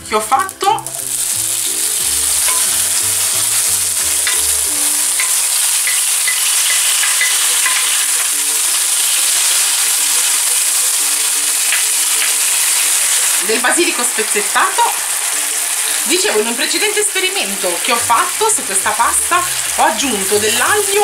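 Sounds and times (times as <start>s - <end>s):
tomatoes sizzling in frying pan: 0.0s - 21.0s.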